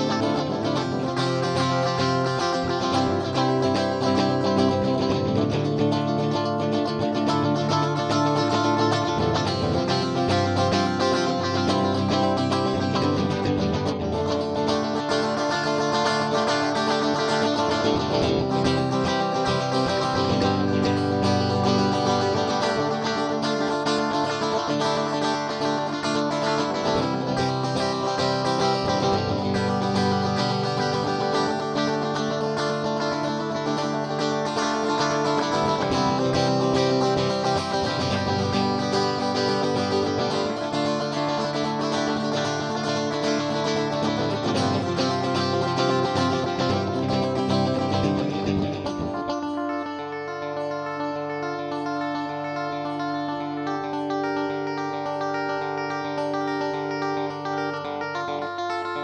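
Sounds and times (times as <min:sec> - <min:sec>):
guitar music: 0:00.0 - 0:59.0.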